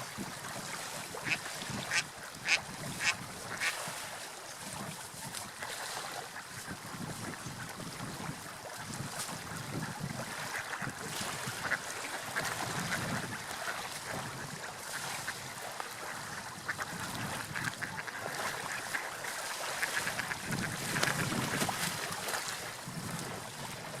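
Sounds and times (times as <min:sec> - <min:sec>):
sea waves: 0:00.0 - 0:24.0
wind: 0:00.0 - 0:24.0.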